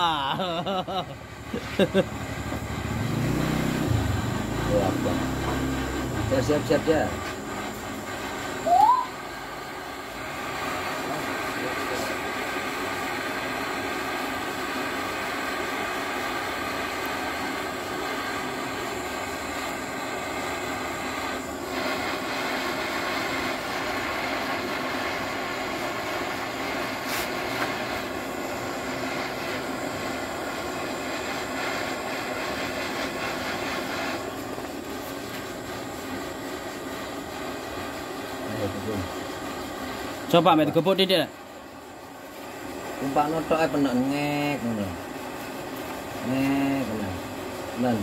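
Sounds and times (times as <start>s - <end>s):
torch flame burning: 0.0s - 48.0s.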